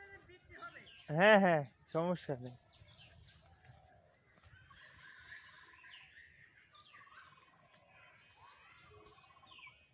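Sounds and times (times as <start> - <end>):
birds trilling and chirping: 0.0 - 9.9.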